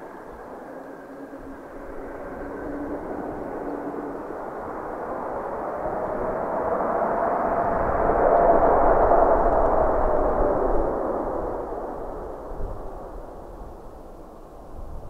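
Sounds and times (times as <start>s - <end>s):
jet engines roaring: 0.0s - 14.4s
faint engine whine: 0.0s - 14.7s.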